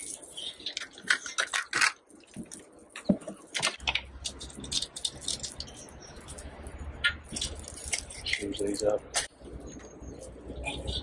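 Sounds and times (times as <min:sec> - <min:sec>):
kindling crackling and snapping: 0:00.0 - 0:10.8.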